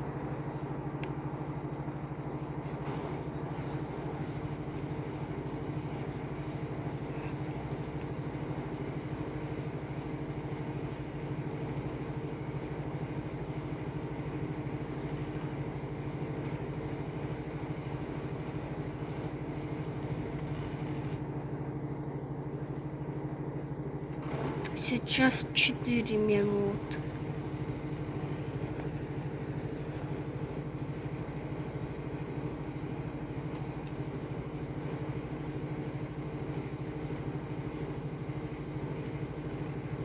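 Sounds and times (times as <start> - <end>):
washing machine spinning: 0.0 - 40.0.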